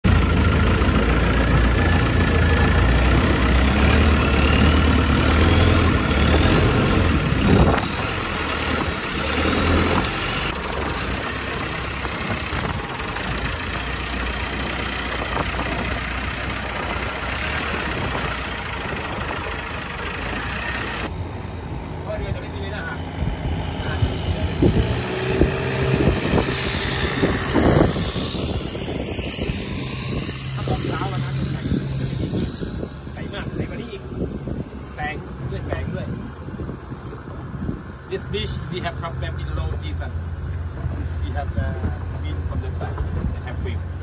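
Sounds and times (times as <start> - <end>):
boat engine running: 0.0 - 44.0
wind: 0.0 - 44.0.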